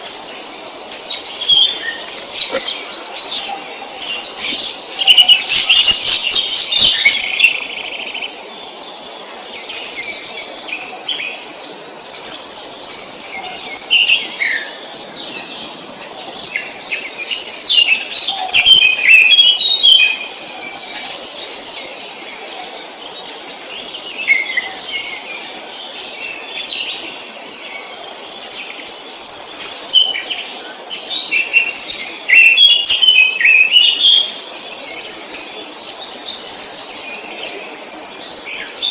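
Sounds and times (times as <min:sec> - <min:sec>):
songbirds singing in chorus: 0:00.0 - 0:38.9.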